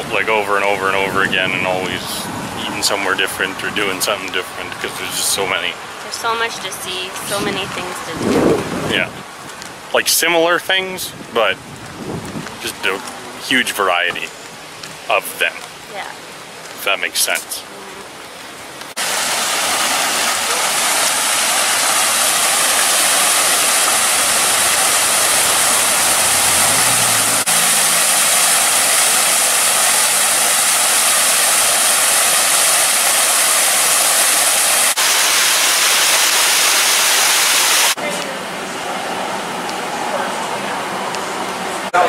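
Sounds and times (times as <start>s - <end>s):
waterfall rushing into pool: 0.0s - 9.1s, 10.0s - 11.6s, 12.6s - 42.0s.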